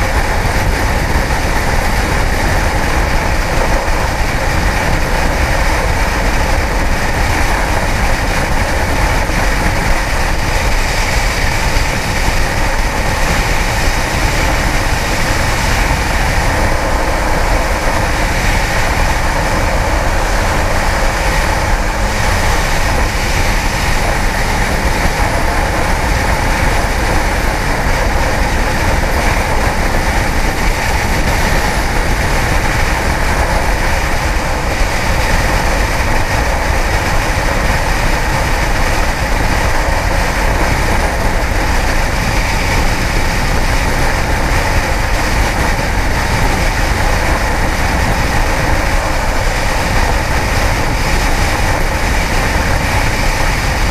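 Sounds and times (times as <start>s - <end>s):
motorcycle engine running: 0.0s - 53.9s
wind rushing on microphone: 0.0s - 53.9s.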